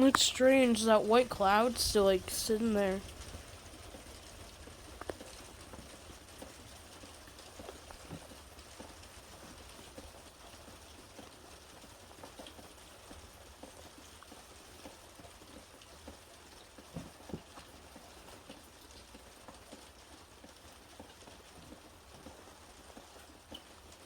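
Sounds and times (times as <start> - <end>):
light rain drops pattering: 0.0 - 24.0.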